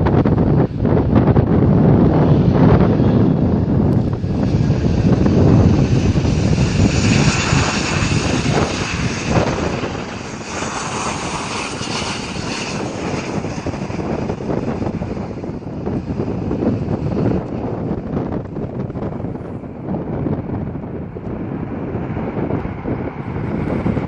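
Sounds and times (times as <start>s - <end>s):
airliner engines passing: 0.0s - 24.0s
high engine whine: 0.0s - 24.0s
wind buffeting microphone: 0.0s - 24.0s.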